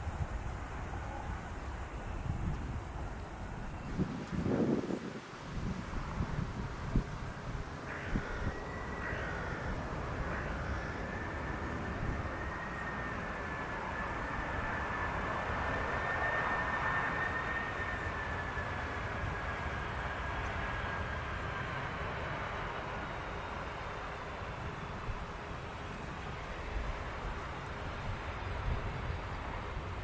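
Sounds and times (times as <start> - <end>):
distant jet engine rush: 0.0 - 30.0
high jet engine whine: 0.0 - 30.0.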